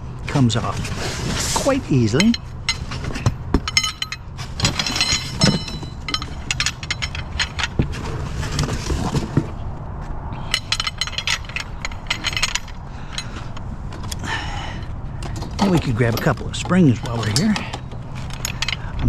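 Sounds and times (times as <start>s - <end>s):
steady low hum: 0.0s - 19.0s
metal scrap clinking and rattling: 0.8s - 9.5s, 10.4s - 19.0s.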